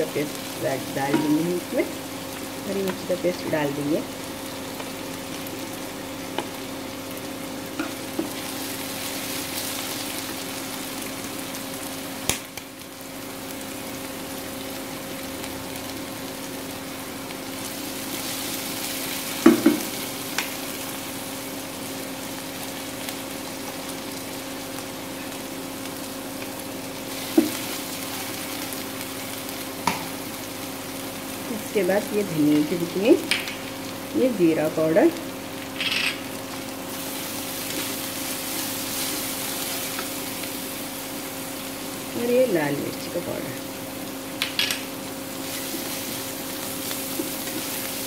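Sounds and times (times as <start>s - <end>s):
onions sizzling in hot oil: 0.0s - 48.0s.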